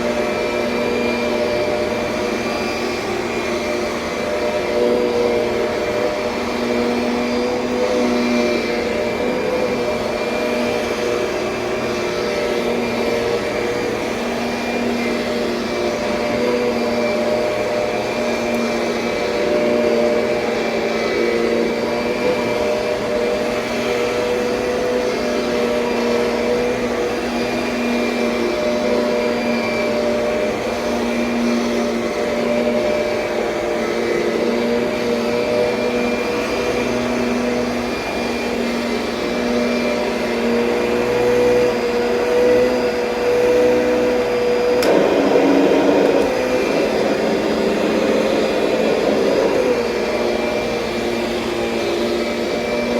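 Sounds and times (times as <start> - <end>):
vacuum cleaner motor whine: 0.0 - 52.9.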